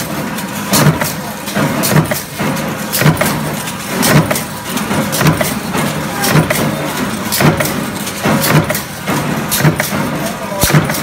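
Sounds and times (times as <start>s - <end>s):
stamping press running: 0.0s - 11.0s.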